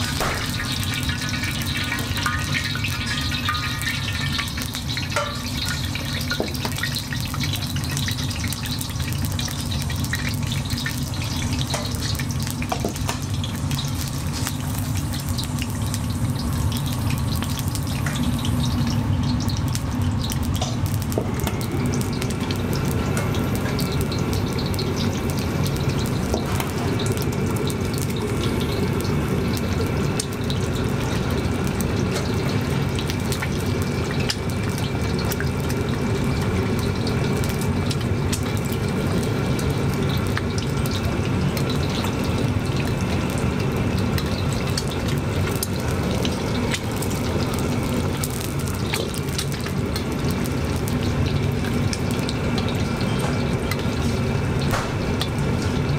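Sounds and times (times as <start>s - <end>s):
eggs sizzling in hot oil: 0.0s - 55.9s
oil popping and crackling: 0.0s - 55.9s.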